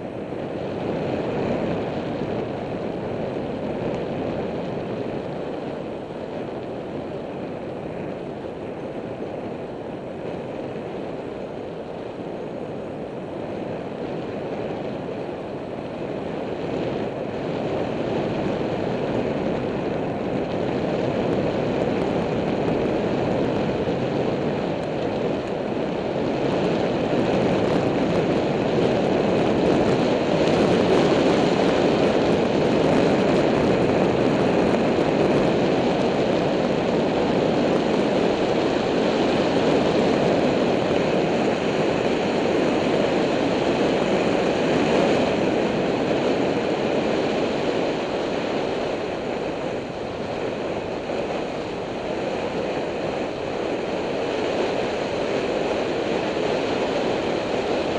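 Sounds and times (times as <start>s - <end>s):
bicycle road noise: 0.0s - 57.9s.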